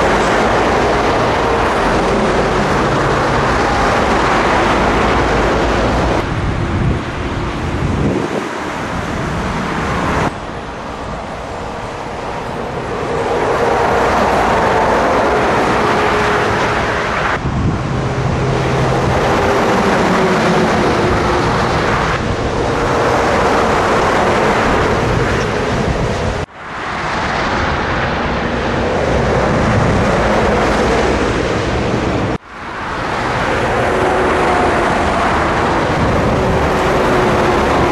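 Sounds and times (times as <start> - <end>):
tyre and road noise: 0.0 - 37.9.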